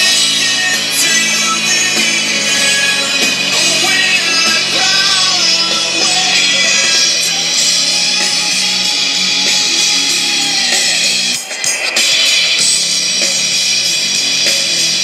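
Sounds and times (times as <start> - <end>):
person singing: 0.0 - 13.4
rock music with guitar: 0.0 - 15.0.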